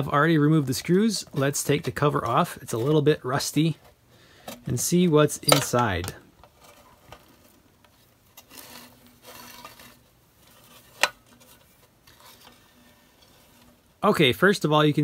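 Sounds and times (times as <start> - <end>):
metal and wires scraping and rustling: 0.0 - 15.0.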